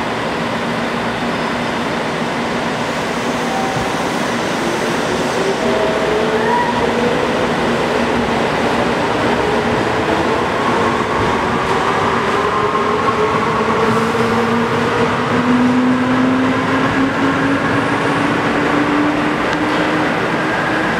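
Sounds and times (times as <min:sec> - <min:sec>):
train wheels on rails: 0:00.0 - 0:20.9.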